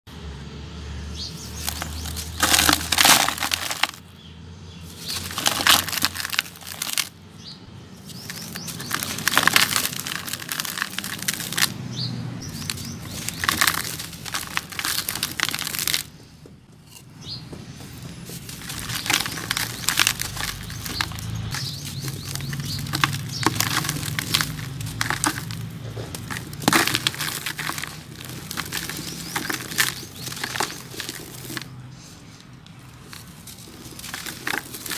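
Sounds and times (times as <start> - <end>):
cement lumps crunching by hand: 1.4 - 4.0, 4.8 - 7.2, 8.0 - 11.8, 12.4 - 34.9.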